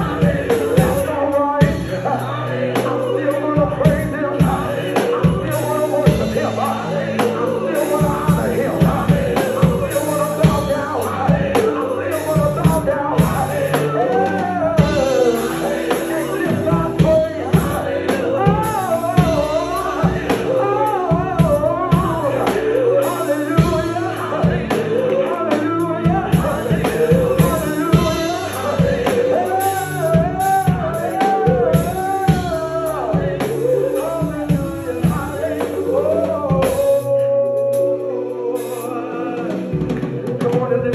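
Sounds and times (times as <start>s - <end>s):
band with drums and bass: 0.0s - 40.9s
man singing wordless runs: 0.0s - 40.9s.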